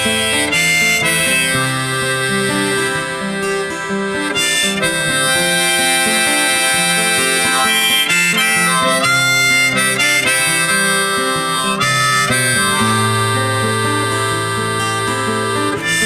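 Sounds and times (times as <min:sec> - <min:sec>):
guitar: 0:00.0 - 0:16.0
harmonica playing: 0:00.0 - 0:16.0.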